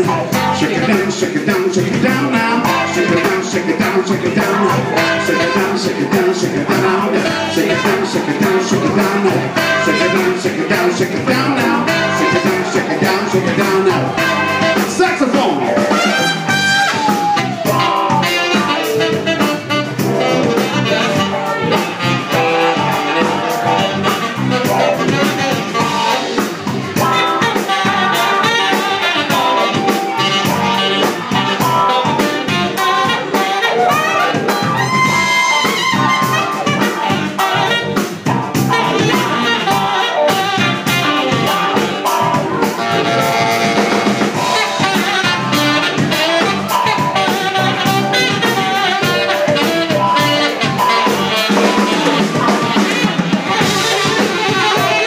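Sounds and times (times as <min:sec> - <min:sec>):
brass lines: 0:00.0 - 0:55.0
drum kit: 0:00.0 - 0:55.0
saxophone: 0:00.0 - 0:55.0.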